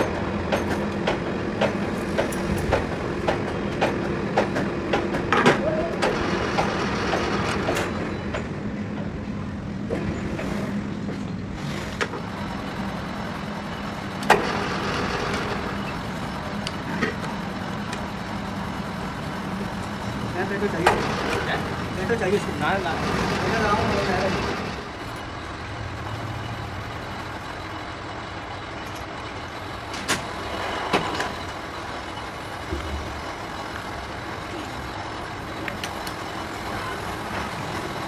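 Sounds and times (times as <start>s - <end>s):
workshop machinery humming: 0.0s - 38.0s.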